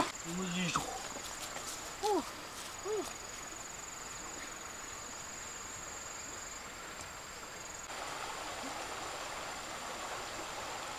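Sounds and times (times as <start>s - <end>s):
faint forest ambience: 0.0s - 10.9s
flowing river water: 0.0s - 10.9s.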